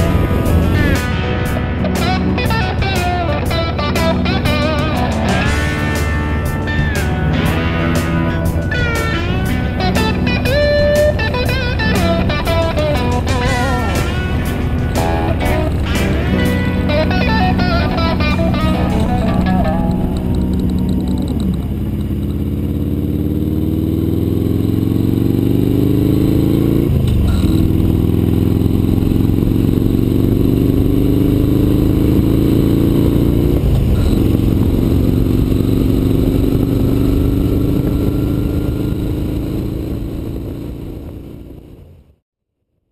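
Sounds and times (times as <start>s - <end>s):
motorcycle engine accelerating: 0.0s - 42.2s.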